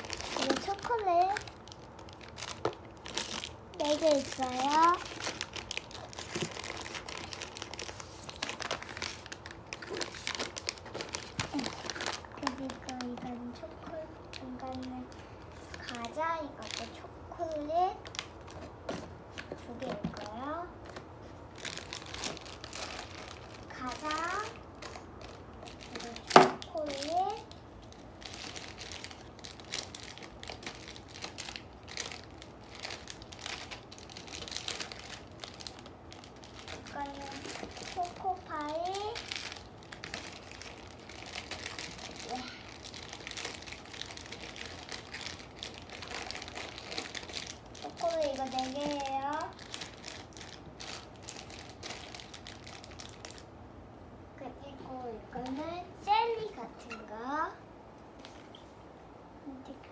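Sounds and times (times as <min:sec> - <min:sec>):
plastic wrappers crinkling: 0:00.0 - 0:53.5.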